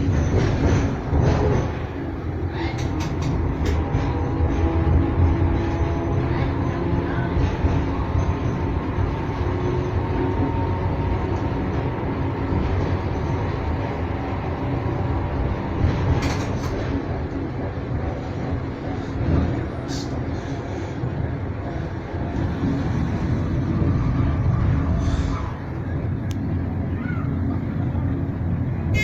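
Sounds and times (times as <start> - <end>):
tram rumbling on track: 0.0 - 29.0.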